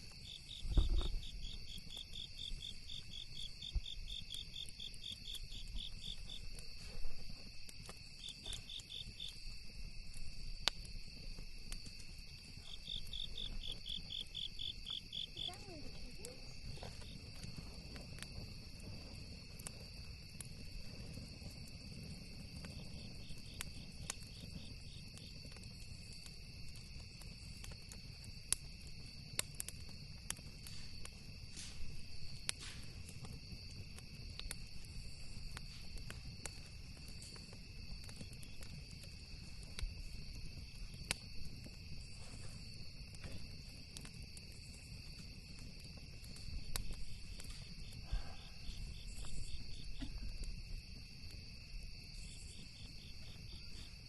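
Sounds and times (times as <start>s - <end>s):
campfire crackling and popping: 0.0s - 54.0s
crickets and insects droning: 0.0s - 54.0s
rapid insect chirps: 0.0s - 54.0s.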